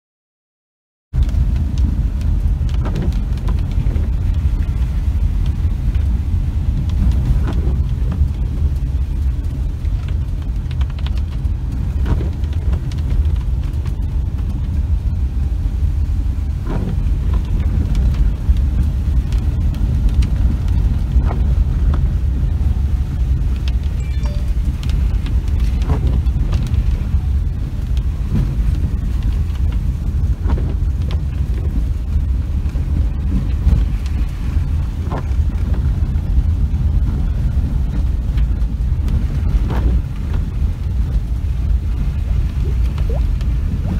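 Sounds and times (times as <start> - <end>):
vehicle engine and tyres rumbling: 1.1 - 43.9.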